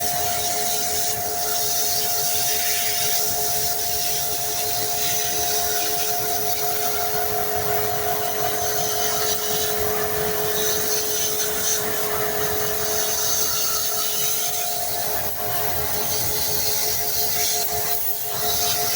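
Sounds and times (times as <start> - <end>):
motor running with whining tones: 0.0 - 18.9.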